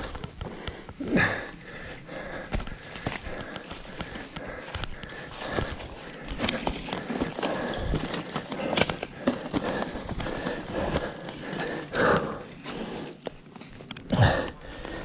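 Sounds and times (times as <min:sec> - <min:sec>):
bike knocks and rattles: 0:00.0 - 0:12.3
mountain bike rolling over rough ground: 0:00.0 - 0:15.0.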